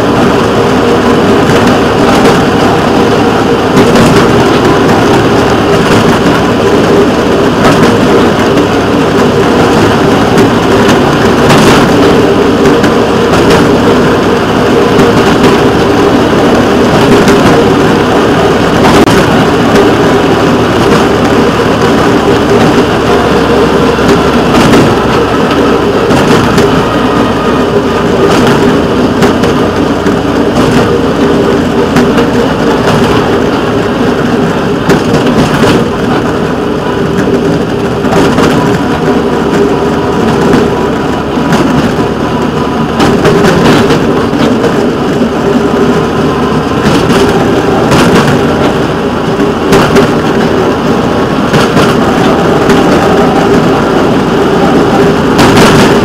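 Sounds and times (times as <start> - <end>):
train engine drone: 0.0 - 56.0
train rumble: 0.0 - 56.0.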